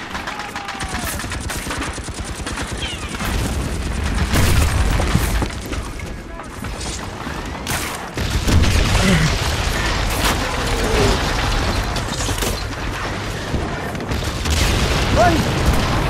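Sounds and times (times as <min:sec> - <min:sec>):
rumble of explosions and gunfire: 0:00.0 - 0:16.0
sharp shots and blasts: 0:00.0 - 0:16.0.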